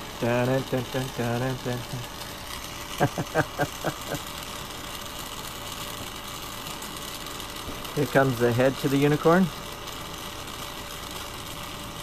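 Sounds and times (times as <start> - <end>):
low machine hum: 0.0 - 12.0
torch flame hissing: 0.0 - 12.0.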